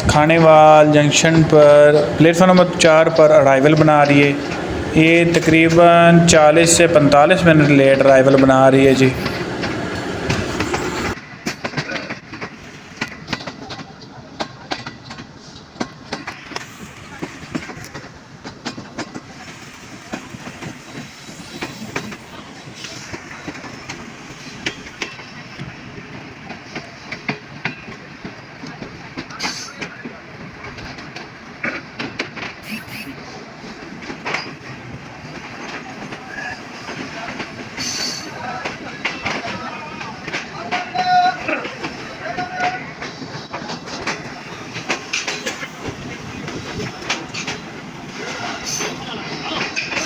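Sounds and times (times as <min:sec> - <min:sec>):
train rumbling on rails: 0:00.0 - 0:50.0
wheel clacks over rail joints: 0:00.0 - 0:50.0.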